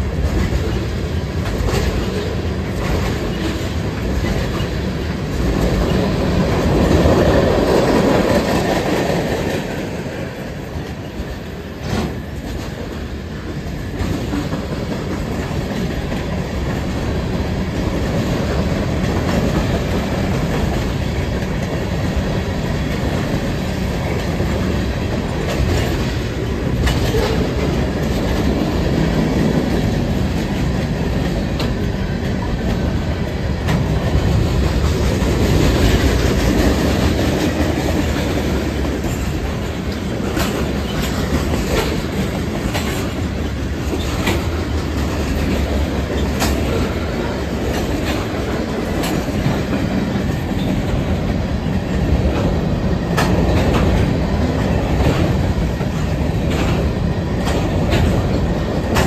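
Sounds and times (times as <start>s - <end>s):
train clicks and clanks: 0.0s - 59.0s
train wheels rumbling on rail: 0.0s - 59.0s.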